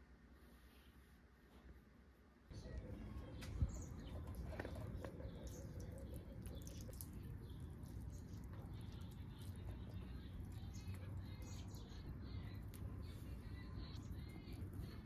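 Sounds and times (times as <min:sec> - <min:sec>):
low steady rumble: 0:01.9 - 0:15.0
small birds chirping: 0:02.5 - 0:15.0.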